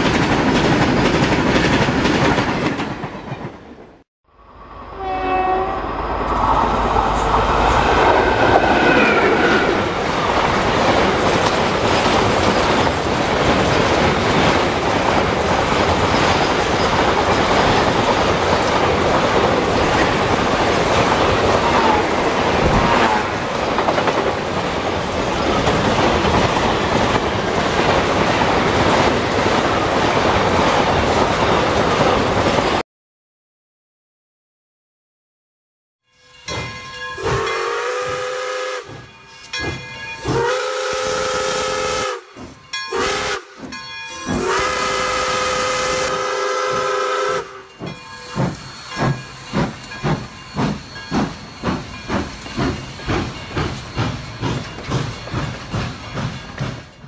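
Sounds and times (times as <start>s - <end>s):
train wheels clickety-clack: 0.0s - 4.0s, 7.2s - 32.8s, 36.5s - 57.0s.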